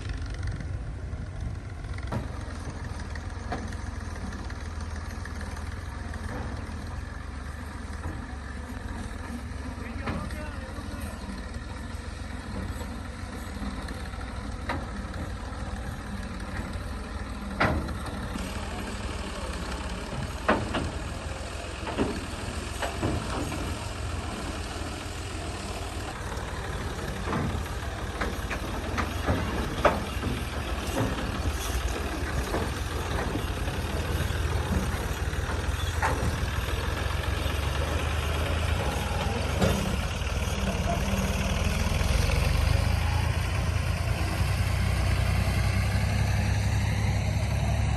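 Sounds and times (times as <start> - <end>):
knocks and clatters: 0.0 - 42.7
tractor diesel engine running: 0.0 - 47.9.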